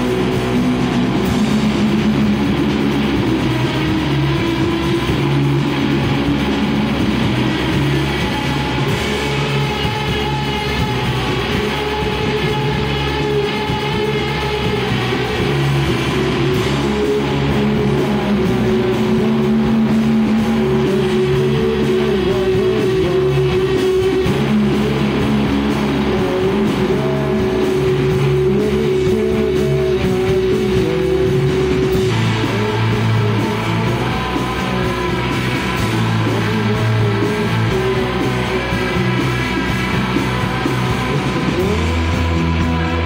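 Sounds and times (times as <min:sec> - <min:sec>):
live band with loud electric guitars: 0:00.0 - 0:43.0.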